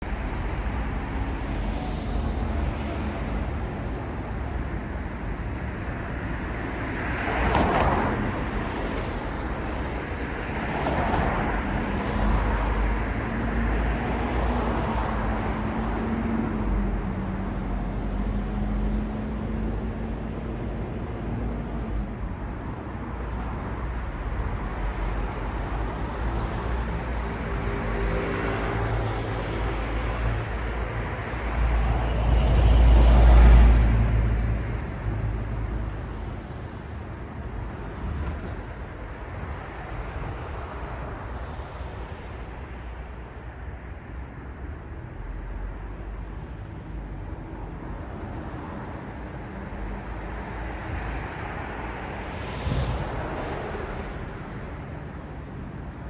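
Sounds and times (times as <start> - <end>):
low rumble of cars: 0.0 - 56.0.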